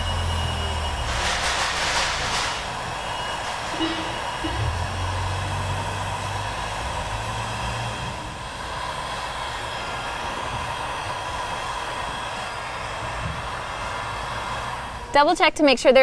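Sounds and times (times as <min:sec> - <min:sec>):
heat gun fan blowing: 0:00.0 - 0:16.0.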